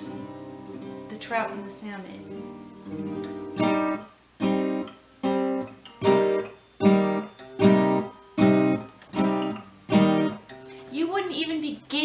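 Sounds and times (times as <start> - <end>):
acoustic guitar chords strummed: 0.0 - 10.9.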